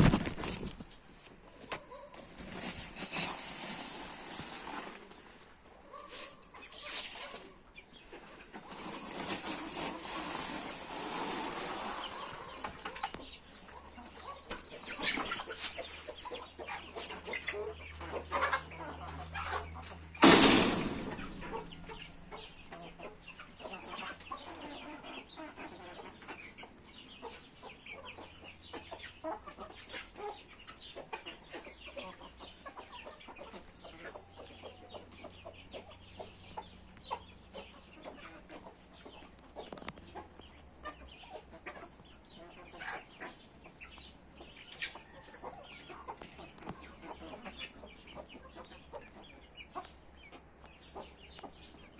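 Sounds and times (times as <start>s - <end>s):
chickens clucking: 0.0s - 51.9s.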